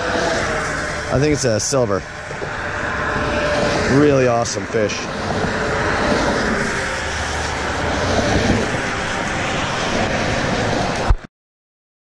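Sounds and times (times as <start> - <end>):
low traffic rumble: 0.0 - 11.3.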